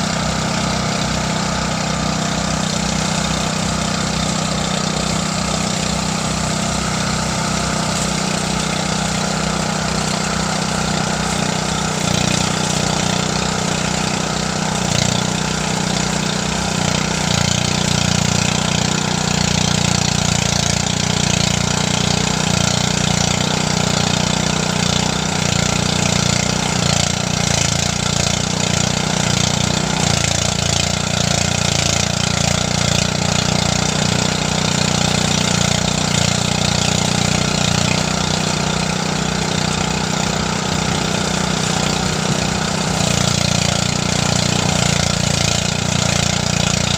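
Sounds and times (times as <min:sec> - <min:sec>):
threshing machine engine humming: 0:00.0 - 0:46.9.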